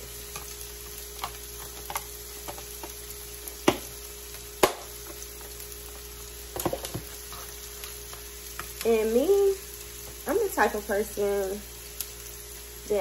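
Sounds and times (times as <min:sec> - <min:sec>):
vegetables sizzling on grill: 0:00.0 - 0:13.0.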